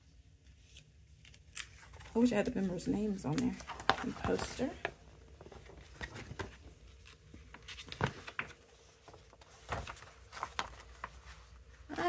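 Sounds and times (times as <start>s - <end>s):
paper crackling and rustling: 0.4s - 12.0s.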